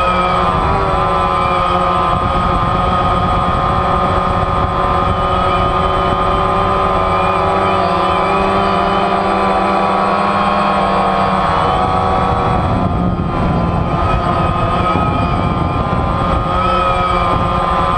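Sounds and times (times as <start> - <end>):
drone motors whining: 0.0 - 17.9
wind buffeting microphone: 0.0 - 17.9.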